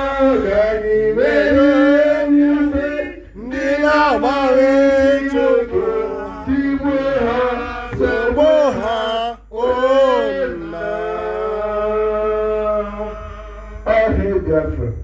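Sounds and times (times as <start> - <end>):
man singing unaccompanied: 0.0 - 13.1.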